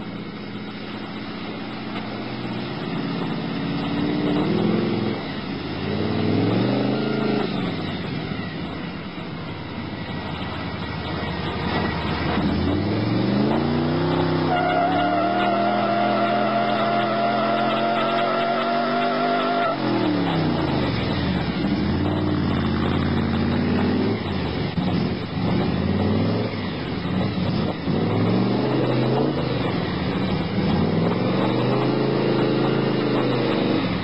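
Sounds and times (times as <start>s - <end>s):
engine revving: 1.9s - 9.0s, 9.6s - 34.0s
tires squealing: 2.2s - 7.8s, 10.0s - 34.0s.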